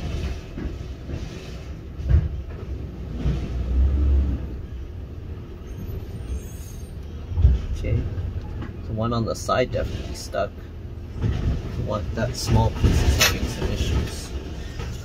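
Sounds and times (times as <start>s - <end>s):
low uneven rumble: 0.0s - 15.0s.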